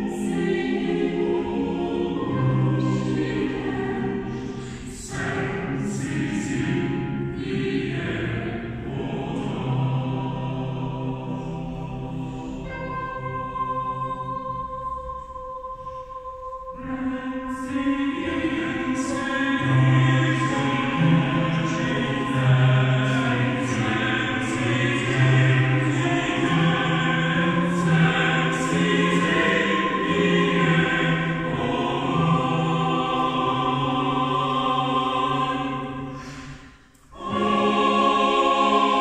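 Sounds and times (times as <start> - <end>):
mixed choir singing a cappella: 0.0 - 39.0.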